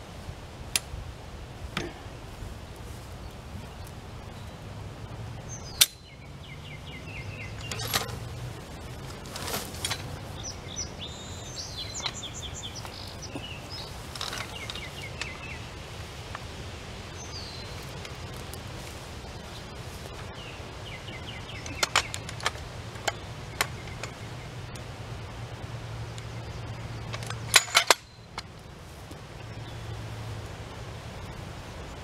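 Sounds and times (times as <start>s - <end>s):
songbird chirping: 2.8s - 32.0s.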